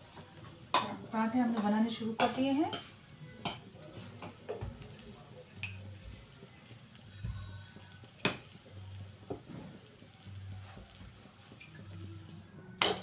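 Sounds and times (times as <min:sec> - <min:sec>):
flatbread sizzling on griddle: 0:00.0 - 0:13.0.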